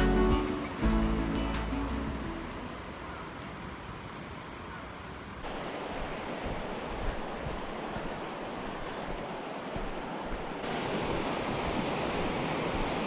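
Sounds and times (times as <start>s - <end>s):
river water rushing: 0.0s - 13.0s
wind buffeting microphone: 0.0s - 13.0s.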